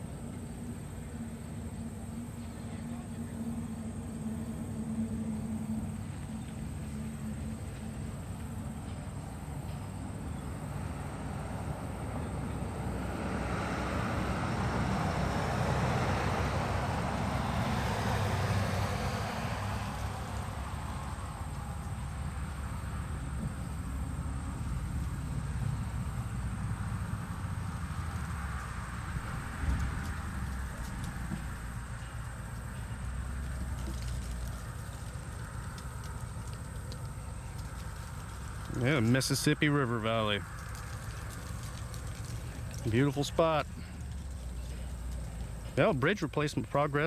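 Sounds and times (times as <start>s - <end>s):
low background noise: 0.0s - 47.0s
vehicle passing by: 0.2s - 47.0s.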